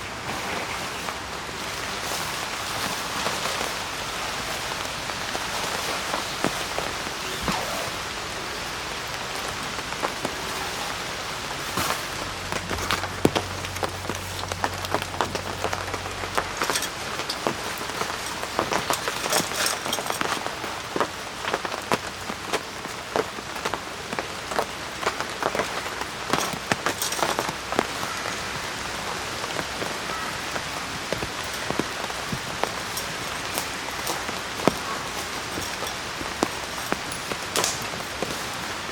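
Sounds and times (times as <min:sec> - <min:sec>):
rain falling: 0:00.0 - 0:38.9
raindrops ticking: 0:01.5 - 0:38.9.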